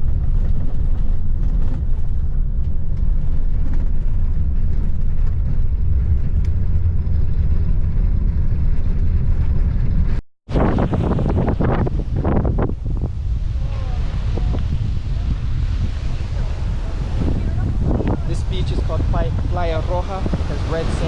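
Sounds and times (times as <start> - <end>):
motor vehicle driving: 0.0 - 21.0.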